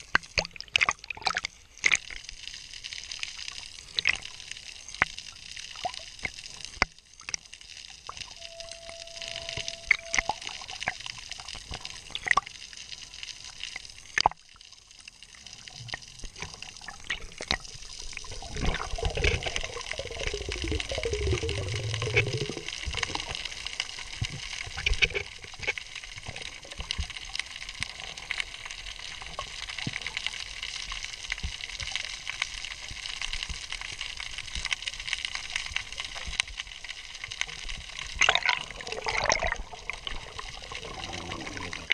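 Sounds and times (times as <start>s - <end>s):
low rumbling and gurgling water: 0.0s - 41.9s
sharp clicks and crackles: 0.0s - 41.9s
steady watery hiss: 0.0s - 41.9s.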